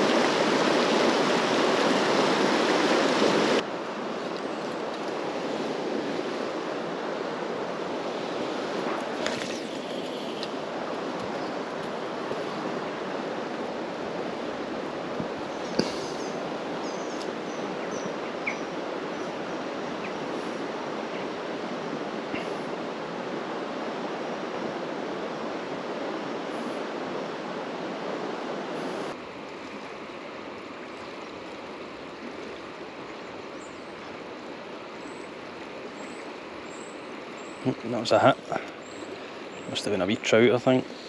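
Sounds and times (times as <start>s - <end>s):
river water rushing over stones: 0.0s - 41.0s.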